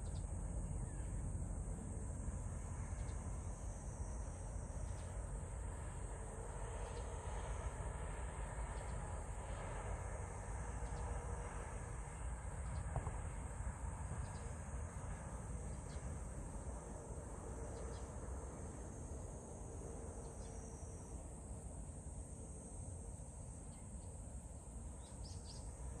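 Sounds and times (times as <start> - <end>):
faint low rumble: 0.0 - 26.0
insect chorus drone: 0.0 - 26.0.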